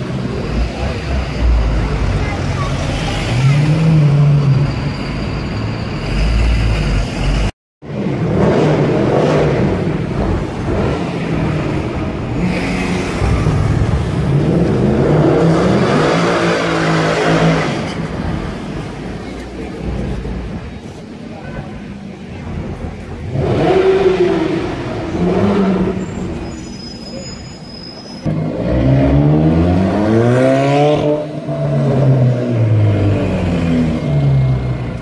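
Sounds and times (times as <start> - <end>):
street traffic: 0.0 - 35.0.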